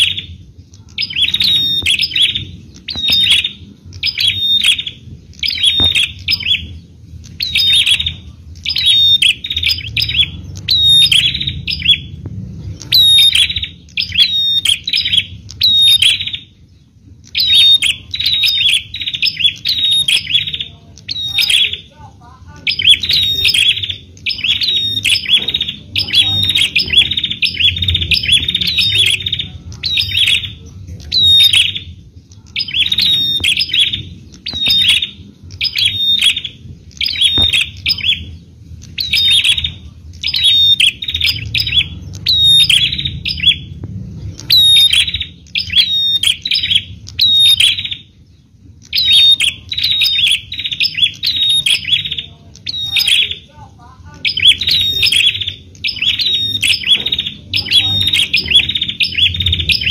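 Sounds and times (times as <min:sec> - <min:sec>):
bird chirping rapidly: 0:00.0 - 0:59.9.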